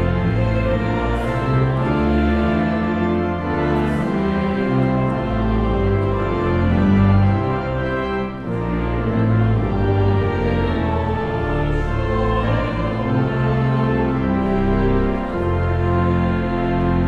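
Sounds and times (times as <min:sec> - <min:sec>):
choir and congregation singing: 0:00.0 - 0:17.0
pipe organ playing a hymn: 0:00.0 - 0:17.0.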